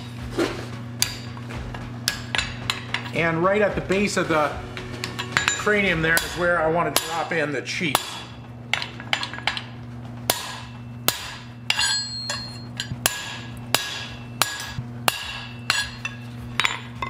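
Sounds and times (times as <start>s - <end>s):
low hum: 0.0s - 17.0s
hammer striking metal on anvil: 1.0s - 9.7s, 10.3s - 17.0s.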